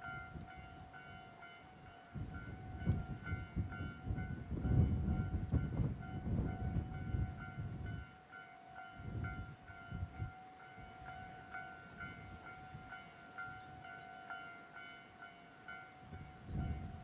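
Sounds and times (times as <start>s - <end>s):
electric locomotive rumbling on rails: 0.0s - 17.0s
level crossing warning bell: 0.0s - 17.0s.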